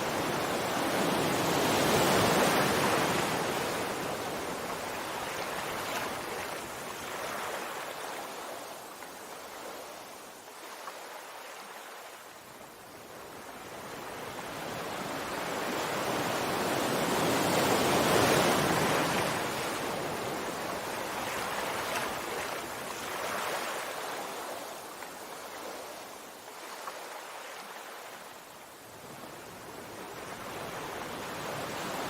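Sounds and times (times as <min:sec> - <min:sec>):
sea waves washing onto shore: 0:00.0 - 0:32.0.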